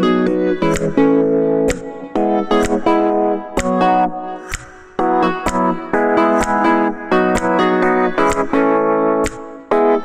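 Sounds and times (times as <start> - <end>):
instrumental music with sharp beat: 0.0 - 10.0.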